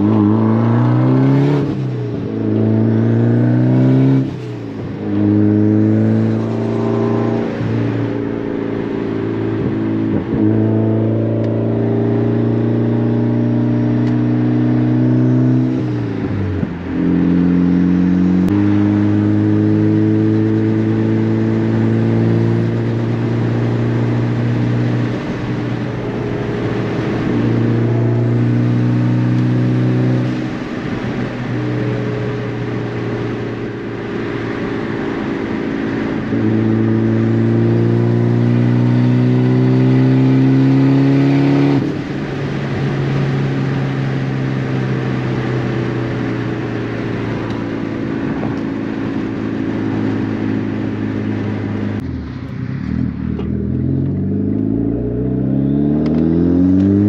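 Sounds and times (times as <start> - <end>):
car engine under throttle: 0.0 - 57.0.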